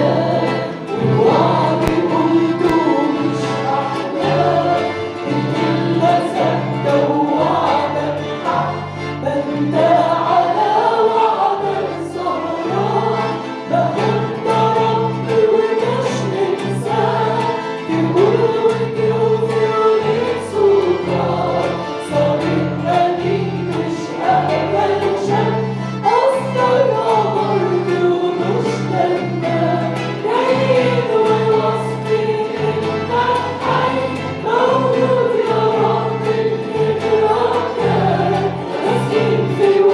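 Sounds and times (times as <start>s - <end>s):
group of voices singing: 0.0s - 39.9s.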